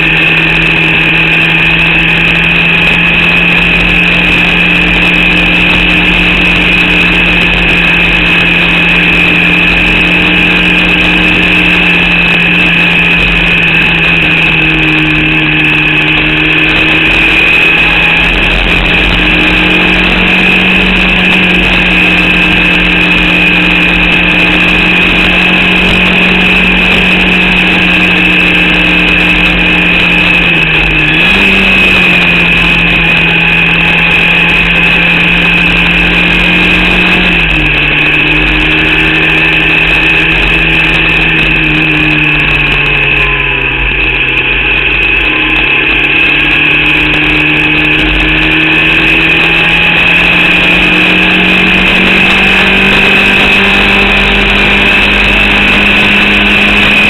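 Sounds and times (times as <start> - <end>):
racing car engine at speed: 0.0 - 57.0.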